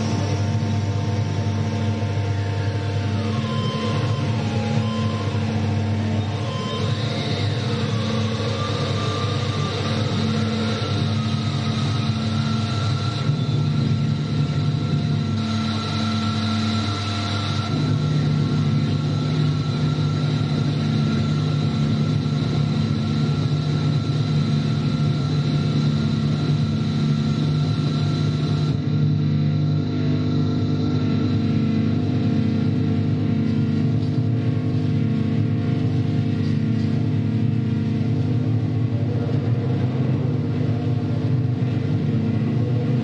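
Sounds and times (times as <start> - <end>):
electronic synthesizer drone: 0.0 - 43.0
heavy low hum: 0.0 - 43.0
pulsing mid tone: 0.0 - 43.0.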